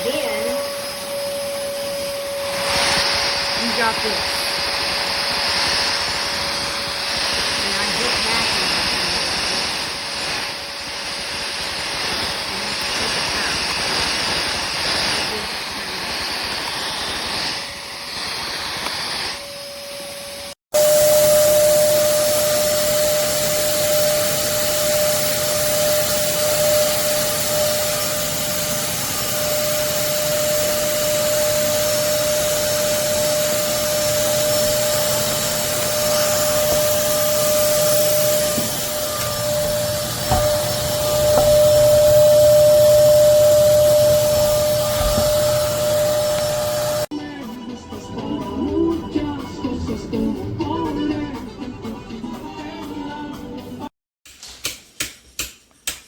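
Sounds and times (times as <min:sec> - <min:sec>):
vacuum cleaner running: 0:00.0 - 0:47.2.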